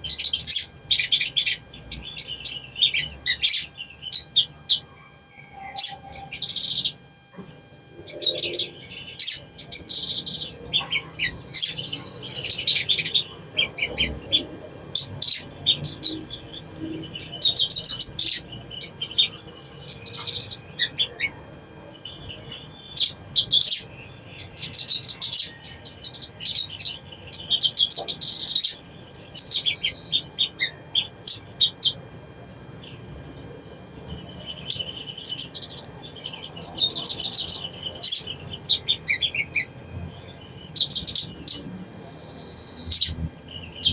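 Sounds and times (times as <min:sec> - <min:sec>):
bird twittering chirp phrases: 0:00.0 - 0:43.9.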